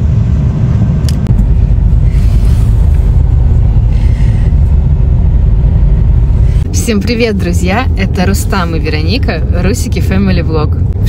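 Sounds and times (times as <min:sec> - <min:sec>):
car cabin engine rumble: 0:00.0 - 0:11.0.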